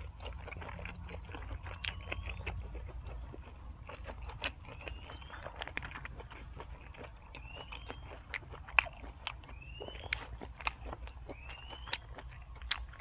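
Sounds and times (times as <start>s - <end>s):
crisp crunching chewing: 0.0s - 13.0s.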